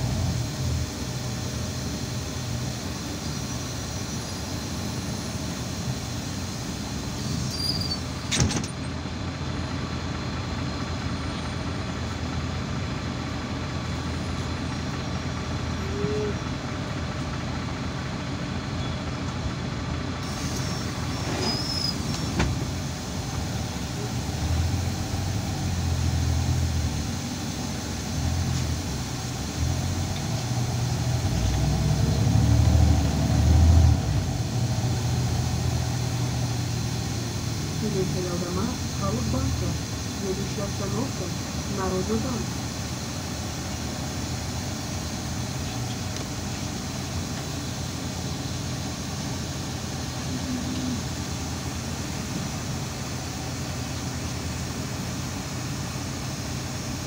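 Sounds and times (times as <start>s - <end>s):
bus engine and road noise: 0.0s - 57.0s.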